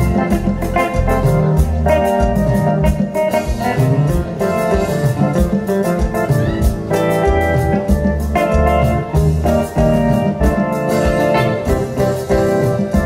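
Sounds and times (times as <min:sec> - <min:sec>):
bass: 0:00.0 - 0:13.0
electric guitar: 0:00.0 - 0:13.0
keyboard chords: 0:00.0 - 0:13.0
steady drum beat: 0:00.0 - 0:13.0.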